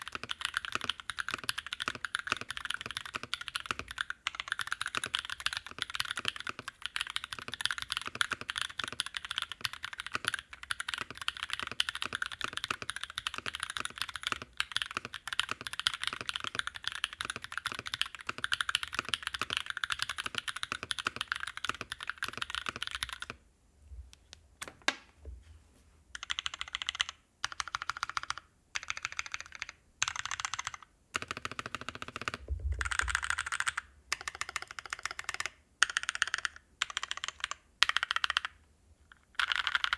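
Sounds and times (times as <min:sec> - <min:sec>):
typing on mechanical keyboard: 0:00.0 - 0:23.4, 0:26.2 - 0:38.6, 0:39.4 - 0:39.9.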